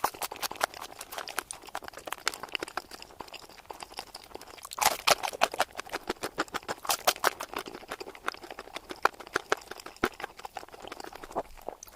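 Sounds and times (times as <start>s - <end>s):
chewing crunchy food: 0.0s - 11.9s.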